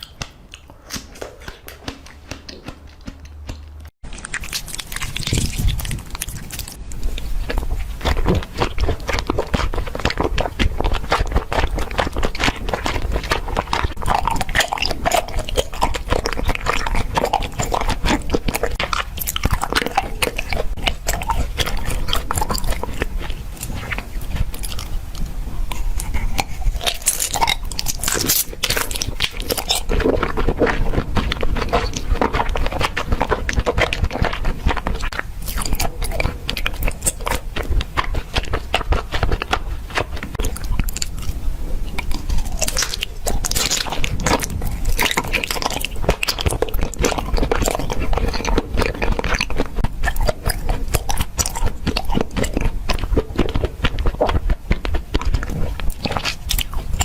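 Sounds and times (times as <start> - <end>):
crunching crisp produce: 0.0 - 57.0.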